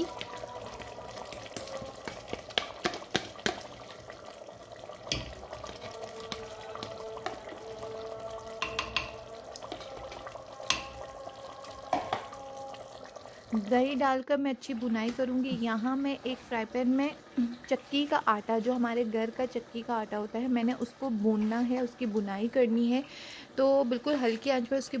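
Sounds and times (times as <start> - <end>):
low sizzle in pot: 0.0 - 25.0.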